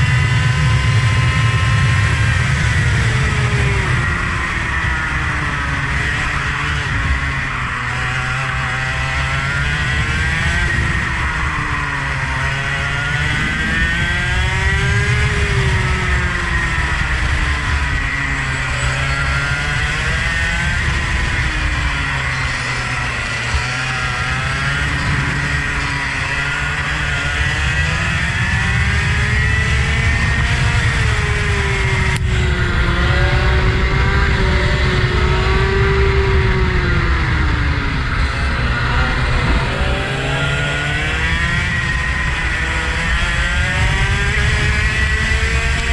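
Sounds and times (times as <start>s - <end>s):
road and wind noise: 0.0s - 45.9s
vehicle engine accelerating: 0.0s - 45.9s.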